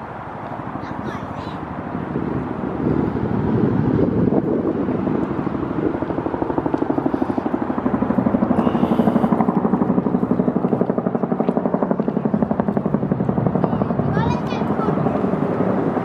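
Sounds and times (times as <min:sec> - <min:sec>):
helicopter rotor thudding: 0:01.6 - 0:16.0.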